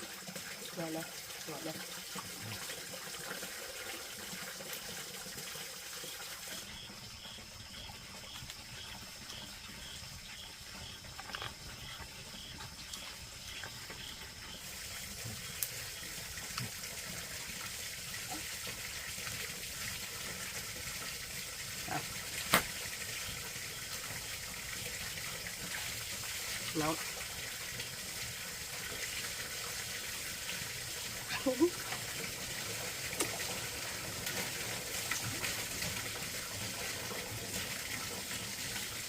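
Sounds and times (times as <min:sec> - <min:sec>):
water running: 0:00.0 - 0:39.0.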